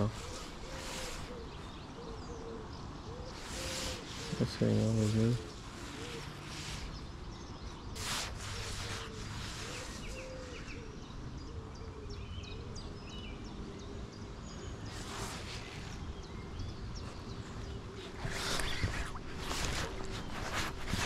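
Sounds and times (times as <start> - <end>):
low rush of wind or water: 0.0 - 21.0
small birds chirping faintly: 0.0 - 21.0.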